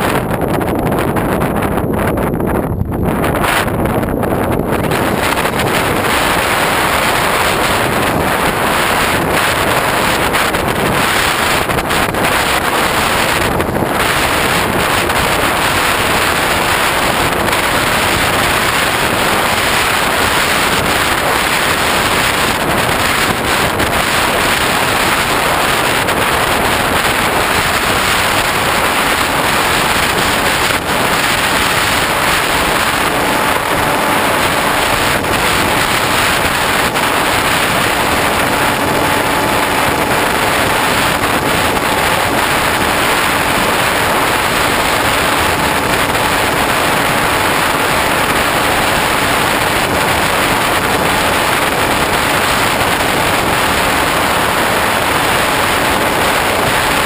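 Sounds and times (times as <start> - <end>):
electric motor and propeller: 0.0 - 57.0
wind rush: 0.0 - 57.0.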